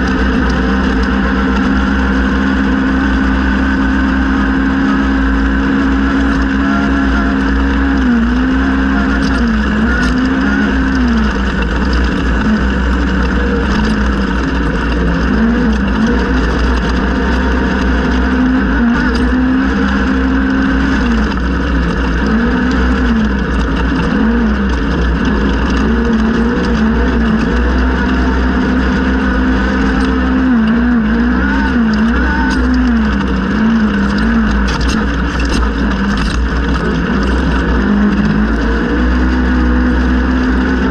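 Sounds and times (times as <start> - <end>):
constant low rumble: 0.0 - 40.9
engine revving hard: 0.0 - 40.9.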